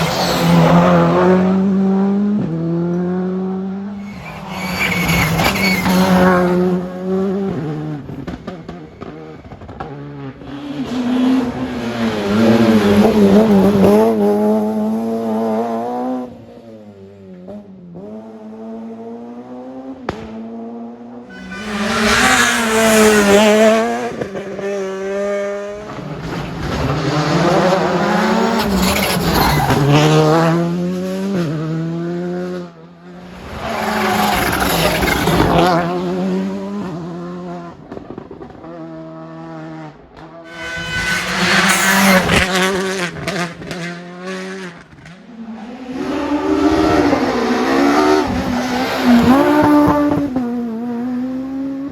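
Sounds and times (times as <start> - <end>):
rally car engines revving past: 0.0 - 51.9.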